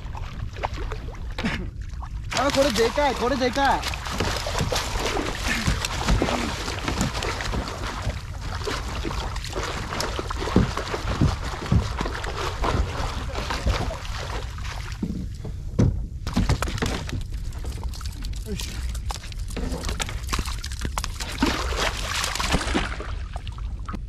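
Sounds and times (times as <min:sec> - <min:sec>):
fish splashing in water: 0:02.0 - 0:15.0, 0:16.3 - 0:23.8.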